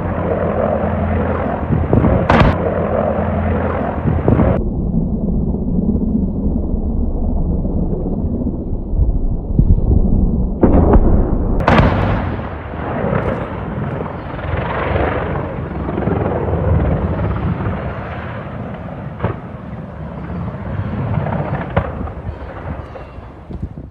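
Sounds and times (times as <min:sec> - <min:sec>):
explosions banging: 0:00.0 - 0:04.9, 0:09.6 - 0:23.9
heavy constant rumble: 0:00.0 - 0:23.9.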